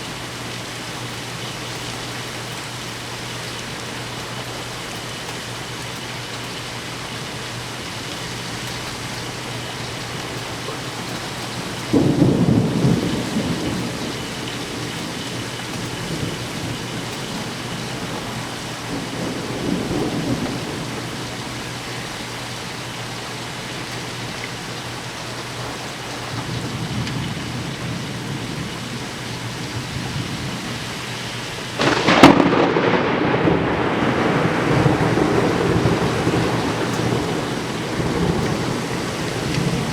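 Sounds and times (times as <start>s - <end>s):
rain falling steadily: 0.0s - 39.9s
thunder claps and rumbles: 3.6s - 39.9s.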